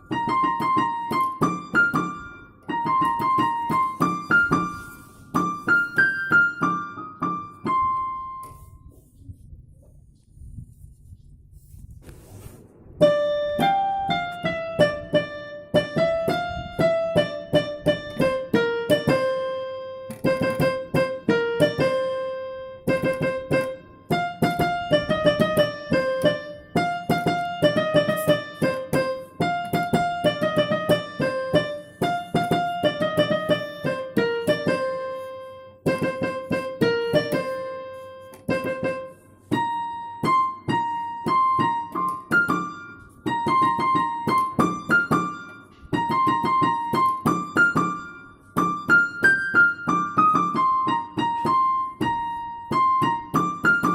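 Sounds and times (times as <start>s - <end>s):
piano melody: 0.0s - 10.8s, 11.6s - 53.9s.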